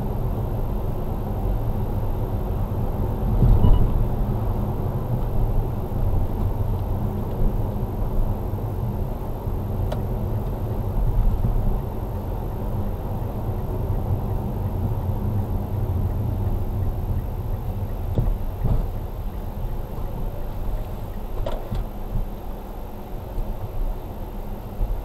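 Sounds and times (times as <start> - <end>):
road and engine rumble in car: 0.0 - 25.0.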